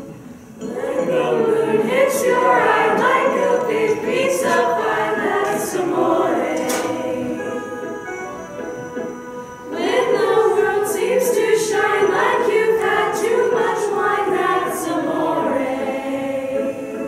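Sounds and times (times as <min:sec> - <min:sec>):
choir singing: 0:00.6 - 0:17.0.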